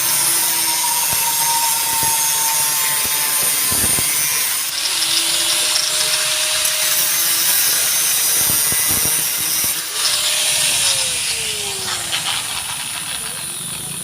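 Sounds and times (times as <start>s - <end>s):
power tool cutting metal: 0.0s - 14.0s.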